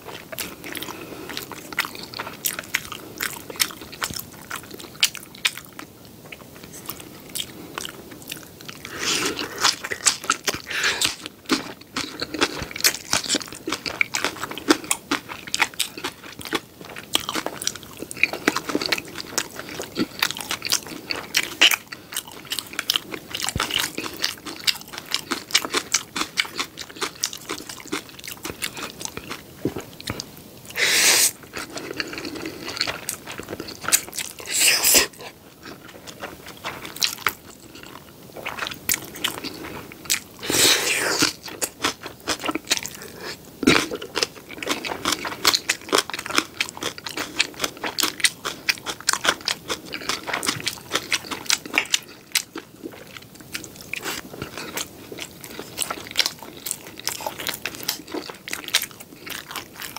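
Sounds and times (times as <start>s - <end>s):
person chewing and crunching: 0.0s - 59.9s.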